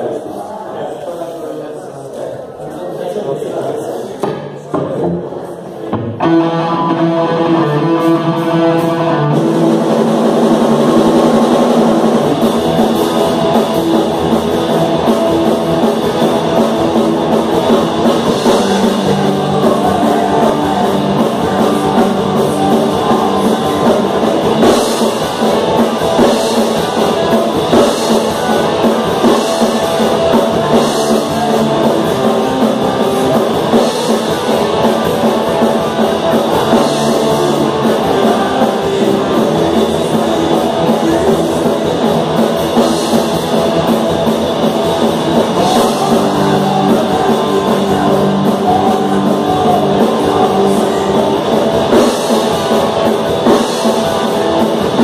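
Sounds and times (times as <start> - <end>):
distorted electric guitars: 4.1 - 55.0
bass guitar: 4.2 - 55.0
drum kit with cymbals: 6.2 - 55.0.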